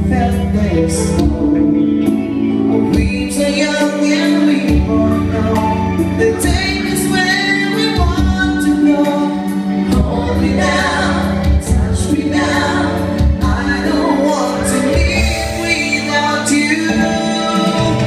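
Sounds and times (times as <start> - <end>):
bass line: 0.0 - 18.0
song with singing voices: 0.0 - 18.0.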